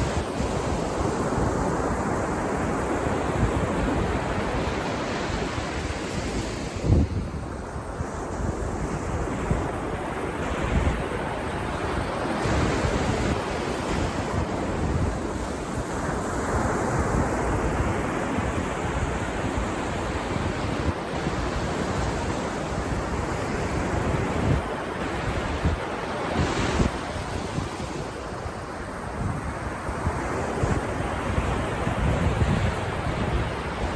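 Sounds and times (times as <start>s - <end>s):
ocean surf breaking on beach: 0.0s - 33.9s
wind rumble on microphone: 0.0s - 33.9s.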